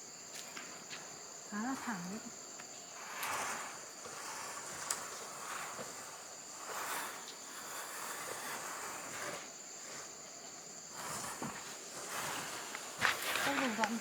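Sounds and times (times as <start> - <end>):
insects trilling: 0.0 - 14.0
soft rustling: 1.7 - 14.0.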